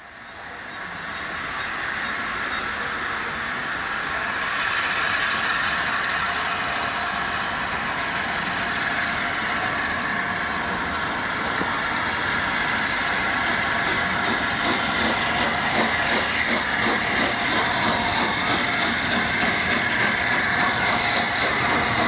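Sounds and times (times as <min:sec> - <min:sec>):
steam locomotive hiss: 0:00.0 - 0:22.0.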